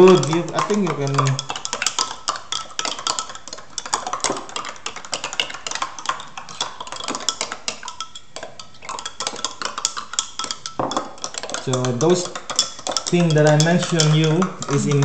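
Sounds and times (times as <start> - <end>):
metal spoons clinking on glass: 0.0 - 15.0.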